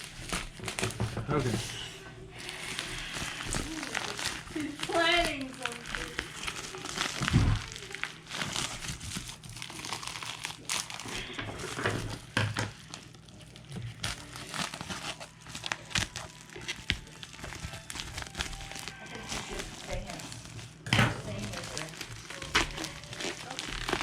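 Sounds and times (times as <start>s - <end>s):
plastic wrap crinkling and tearing: 0.0s - 24.0s.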